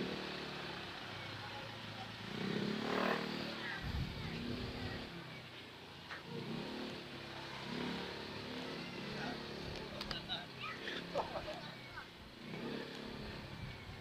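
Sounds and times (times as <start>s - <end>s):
motorcycle engine running: 0.0s - 14.0s
other vehicle engines: 0.0s - 14.0s.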